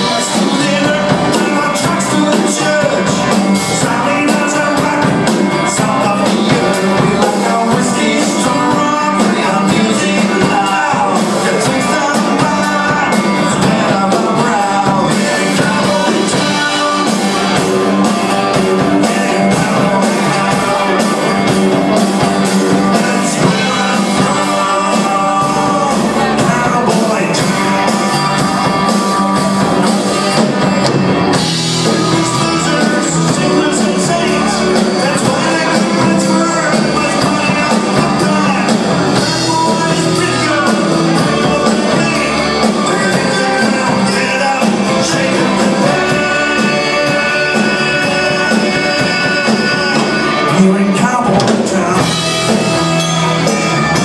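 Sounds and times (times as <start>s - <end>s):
bass guitar: 0.0s - 54.0s
drum kit beat: 0.0s - 54.0s
electric and acoustic guitars: 0.0s - 54.0s
man singing: 0.0s - 54.0s.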